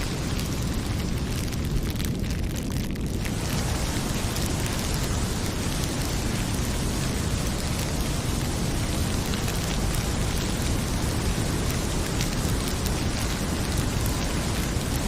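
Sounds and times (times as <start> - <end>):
fire crackling and popping: 0.0 - 15.0
heavy rain pouring: 0.0 - 15.0.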